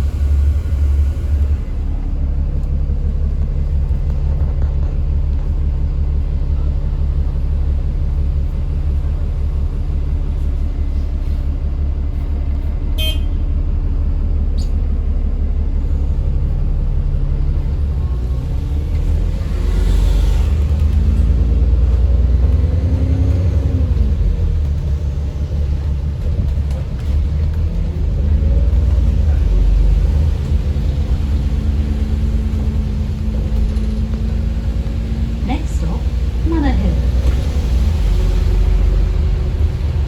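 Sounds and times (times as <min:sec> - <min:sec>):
bus engine droning: 0:00.0 - 0:40.0.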